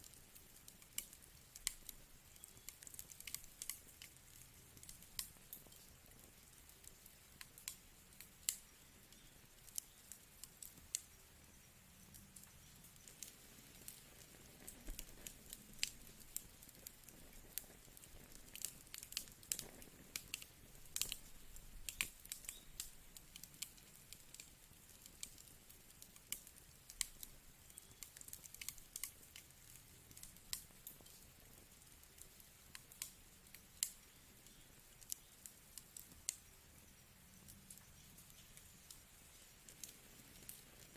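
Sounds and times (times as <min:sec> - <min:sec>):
faint steady hiss: 0:00.0 - 0:40.9
firewood crackling and popping: 0:00.0 - 0:40.9.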